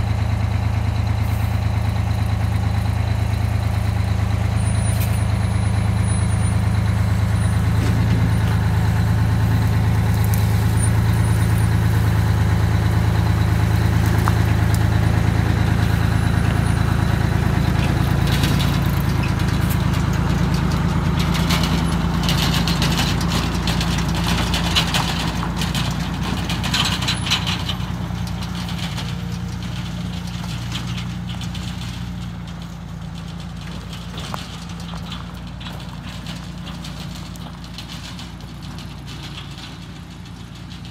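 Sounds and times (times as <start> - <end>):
bus diesel engine running: 0.0 - 40.9.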